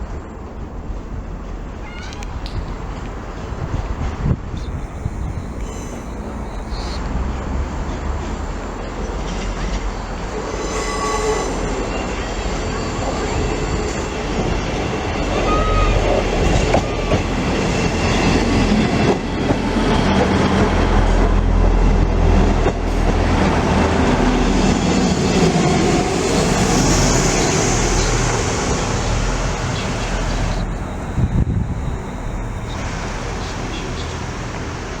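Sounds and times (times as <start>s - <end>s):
train wheels running over rails: 0.1s - 35.0s.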